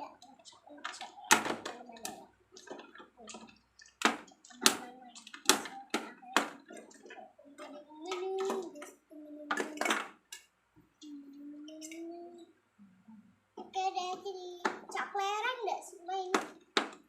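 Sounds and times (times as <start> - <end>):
voices talking: 0.0 - 16.9.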